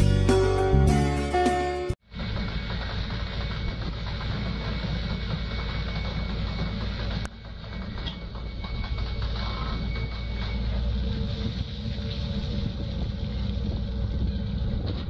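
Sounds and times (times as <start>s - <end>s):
boat engine and hoisting gear: 2.1s - 15.0s.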